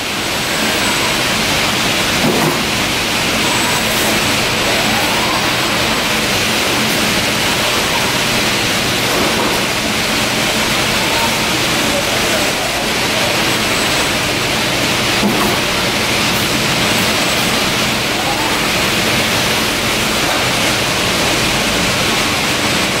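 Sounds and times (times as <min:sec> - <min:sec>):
factory machinery running: 0:00.0 - 0:23.0.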